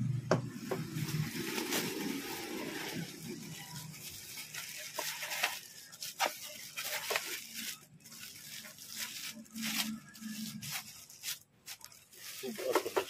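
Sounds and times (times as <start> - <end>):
plastic wrap crinkling: 0.6 - 13.0.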